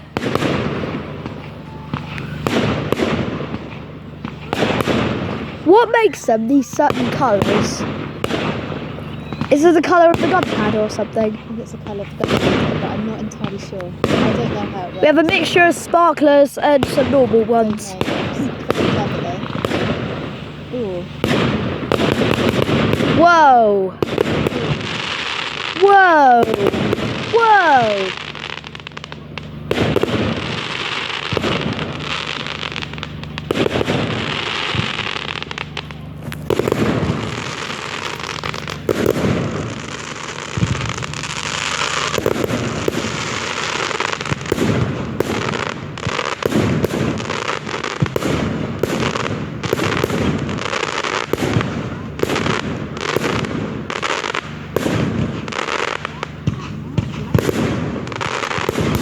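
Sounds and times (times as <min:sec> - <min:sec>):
firework shells banging: 0:00.0 - 0:59.0
fireworks crackling: 0:00.0 - 0:59.0.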